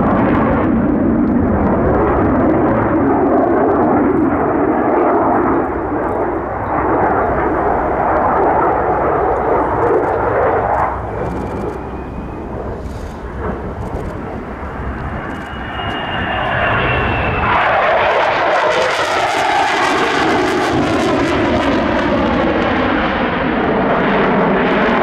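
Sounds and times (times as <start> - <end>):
jet engines rumbling in flight: 0.0 - 25.0.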